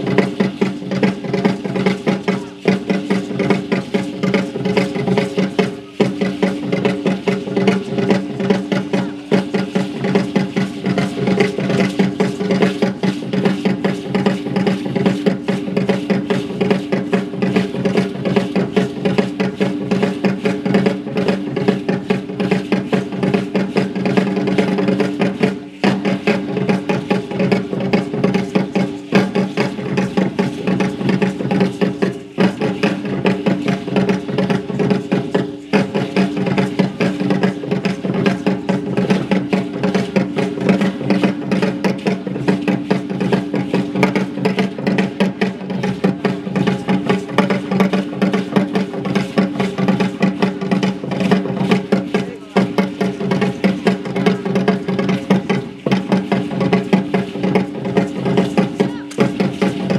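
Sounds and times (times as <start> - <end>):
fast dense drumbeat: 0.0 - 59.9.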